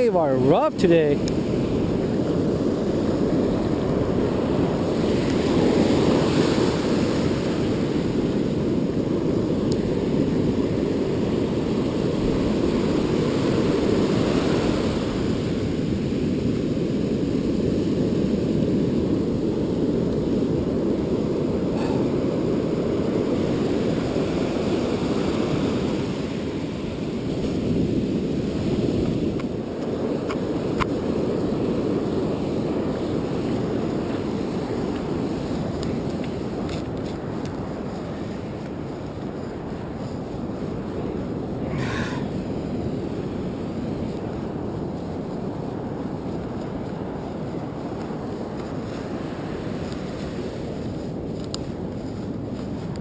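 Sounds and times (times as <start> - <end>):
ocean surf breaking: 0.0 - 53.0
wind rumbling on microphone: 0.0 - 53.0.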